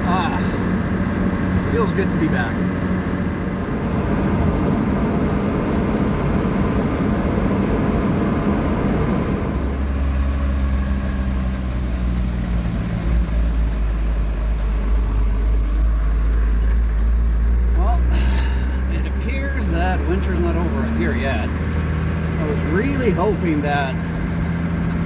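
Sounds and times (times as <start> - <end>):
pickup truck engine: 0.0 - 25.0
road rumble: 0.0 - 25.0.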